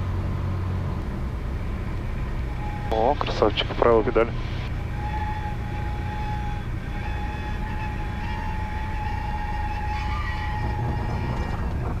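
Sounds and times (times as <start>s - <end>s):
airplane engine rumble: 0.0s - 12.0s.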